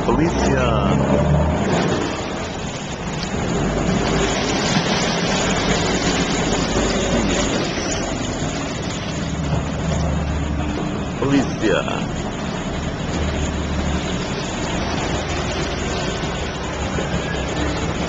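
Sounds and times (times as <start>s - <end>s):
motorboat engines humming: 0.0s - 18.0s
water churning: 0.0s - 18.0s.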